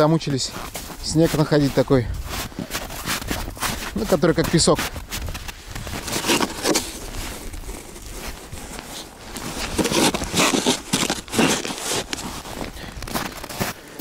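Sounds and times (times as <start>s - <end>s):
shovel crunching crusted snow: 0.0s - 14.0s.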